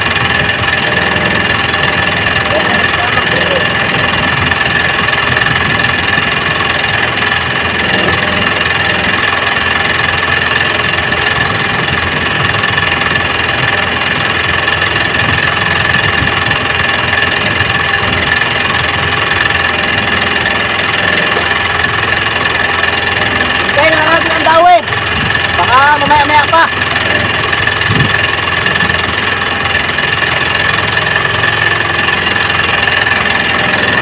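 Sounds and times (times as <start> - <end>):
high whine: 0.0 - 34.0
small engine idling: 0.0 - 34.0.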